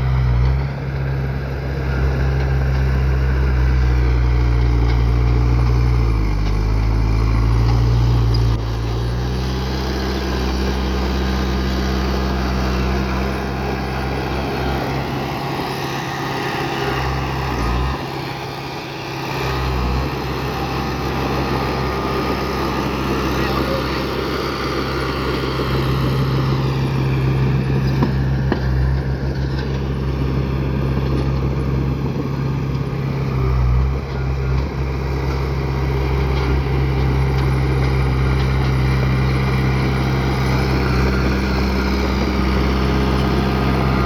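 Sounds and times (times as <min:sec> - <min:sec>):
heavy diesel engine under load: 0:00.0 - 0:44.0.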